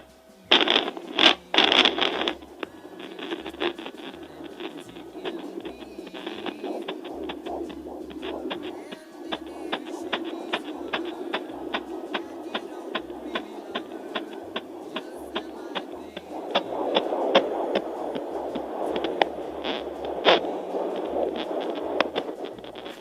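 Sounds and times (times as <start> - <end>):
fetal heartbeat through speaker: 0.0 - 23.0
steady whooshing hum: 0.0 - 23.0.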